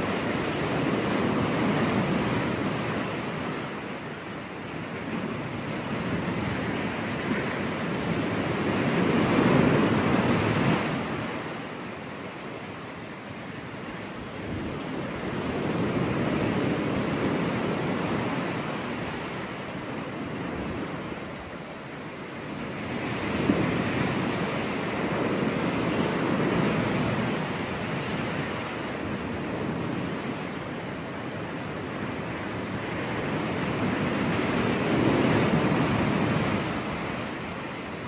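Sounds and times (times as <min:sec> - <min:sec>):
ocean waves washing onto beach: 0:00.0 - 0:38.0.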